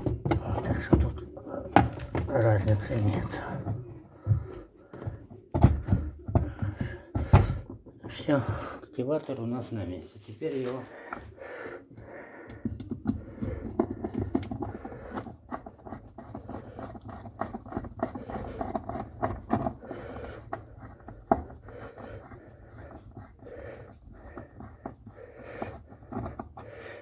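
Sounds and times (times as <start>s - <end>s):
clicks taps and scraping of parts: 0.0s - 8.6s, 10.5s - 27.0s.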